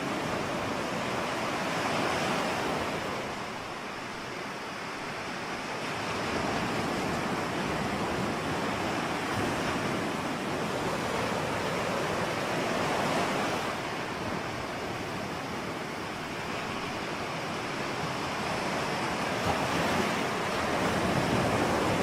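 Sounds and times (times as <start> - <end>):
ocean waves washing onto shore: 0.0 - 22.0.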